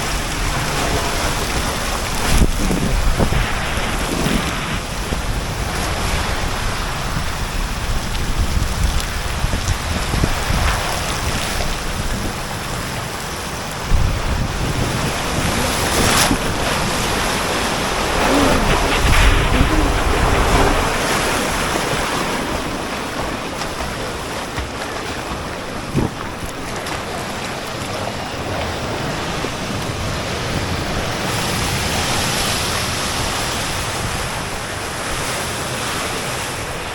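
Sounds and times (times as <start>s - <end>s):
rushing splashing water: 0.0s - 36.9s
wind buffeting microphone: 0.0s - 36.9s.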